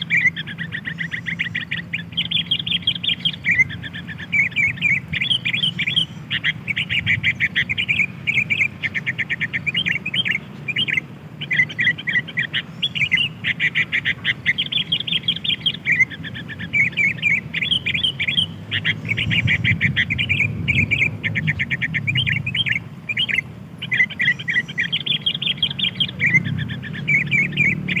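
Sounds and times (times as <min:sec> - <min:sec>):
bulbuls chirping: 0:00.0 - 0:28.0.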